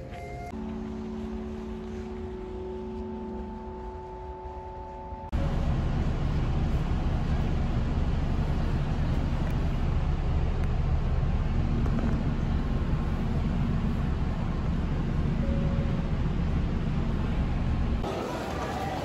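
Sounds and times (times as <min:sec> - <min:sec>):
train running inside carriage: 0:00.0 - 0:19.0.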